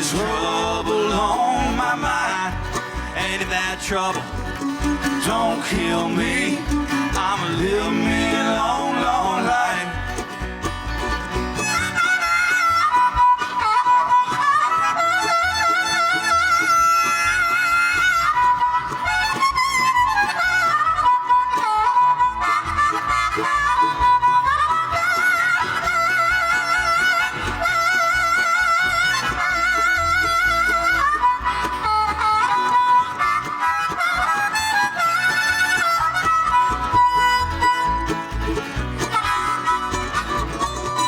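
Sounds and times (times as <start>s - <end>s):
bluegrass band playing: 0.0s - 41.0s
lead melody with vibrato: 0.0s - 41.0s.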